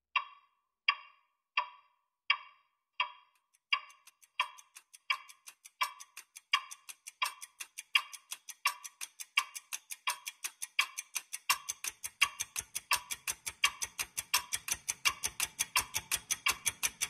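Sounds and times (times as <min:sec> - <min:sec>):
clock-like ticking: 0:00.1 - 0:17.0
fast bright ticking: 0:00.2 - 0:17.0.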